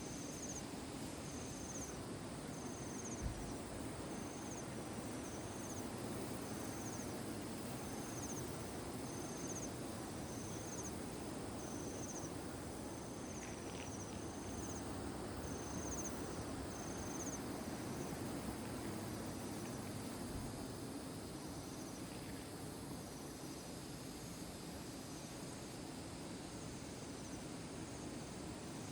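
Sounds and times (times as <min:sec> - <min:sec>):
insect chirping trill: 0:00.0 - 0:25.6.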